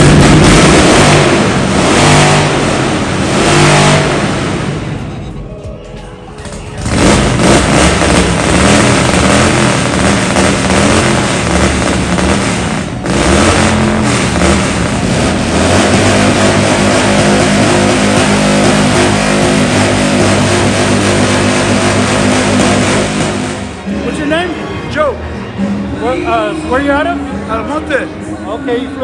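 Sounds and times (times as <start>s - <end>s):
motorcycle engine revving: 0.0s - 5.5s, 6.4s - 24.9s.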